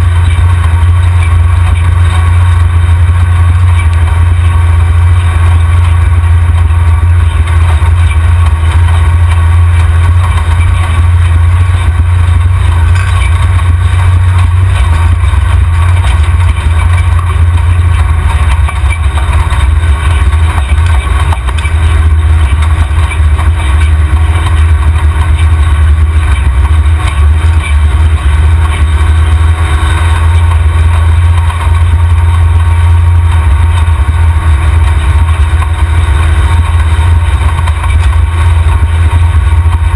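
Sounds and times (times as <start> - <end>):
off-road vehicle engine drone: 0.0 - 39.9.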